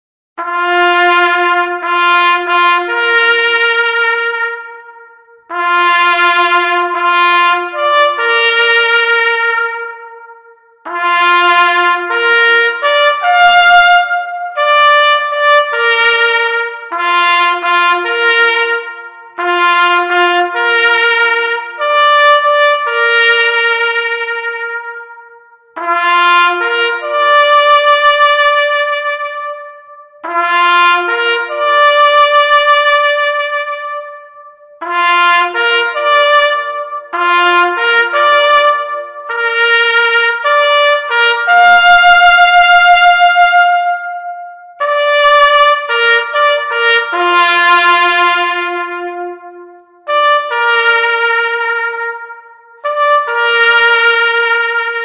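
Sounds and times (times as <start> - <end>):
solo trumpet long notes: 0.4 - 55.0.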